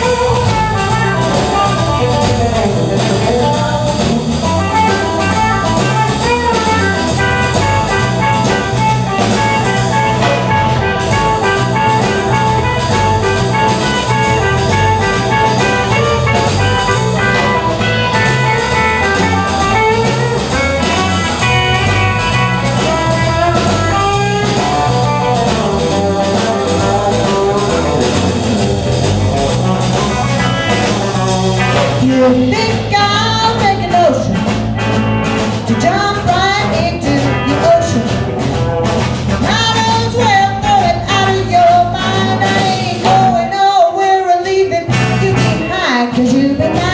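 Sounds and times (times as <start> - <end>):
blues rock band playing: 0.0 - 46.9
drum kit beat: 0.0 - 46.9.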